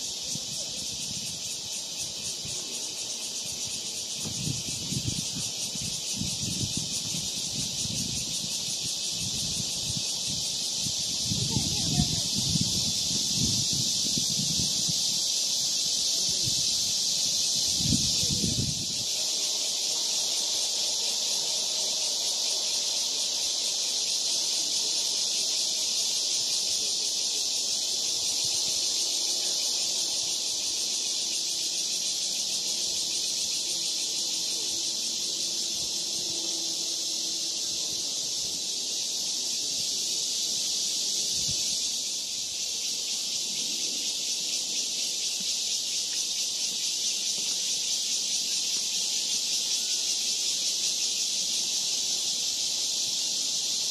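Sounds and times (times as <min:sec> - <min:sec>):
cicadas droning: 0:00.0 - 0:53.9.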